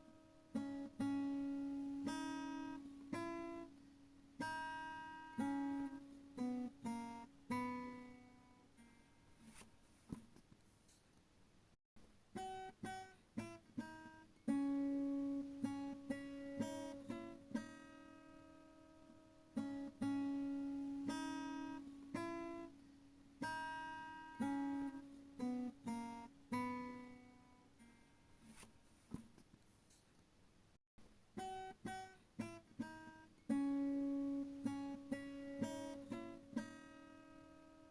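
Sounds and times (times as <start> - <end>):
acoustic guitar plucked notes: 0.0 - 9.6, 12.4 - 28.6, 31.4 - 37.9.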